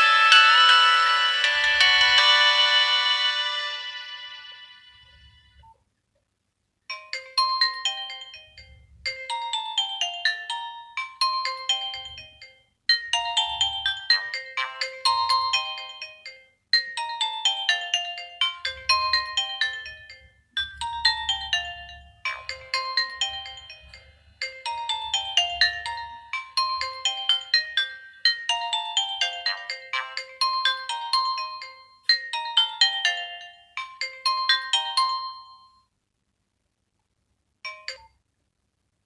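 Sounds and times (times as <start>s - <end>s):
phone ringtone melody: 0.0s - 5.6s, 6.9s - 35.9s, 37.7s - 38.1s.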